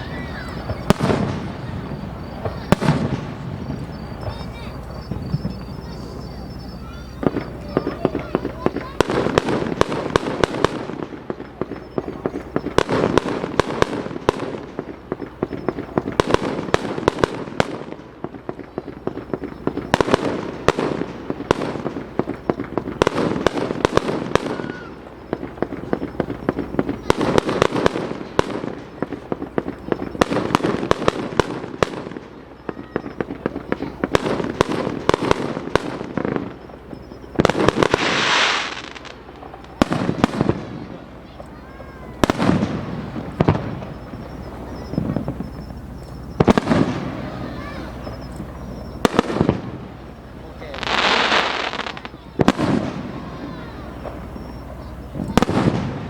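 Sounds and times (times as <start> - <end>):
fireworks bangs and crackles: 0.0 - 56.0
rushing firework hiss: 0.0 - 56.0.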